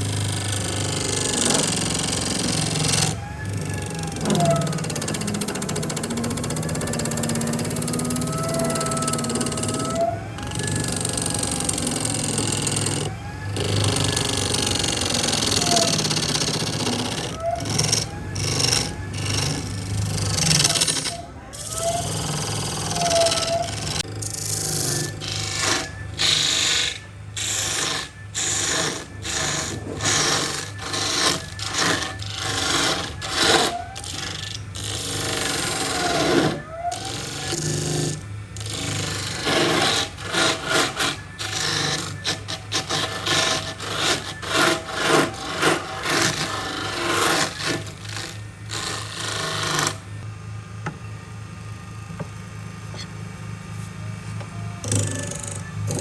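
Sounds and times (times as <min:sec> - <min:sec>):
hand tool scraping wood: 0:00.0 - 0:50.0
steady low hum: 0:00.0 - 0:56.0.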